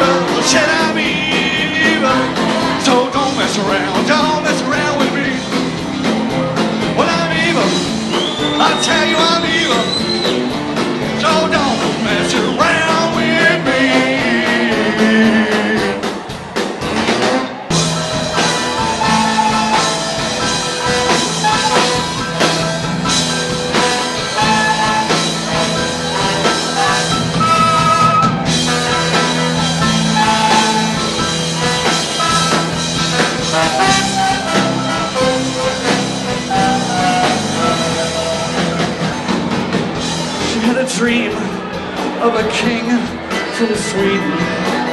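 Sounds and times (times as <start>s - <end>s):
drum kit: 0.0s - 44.9s
electric guitar: 0.0s - 44.9s.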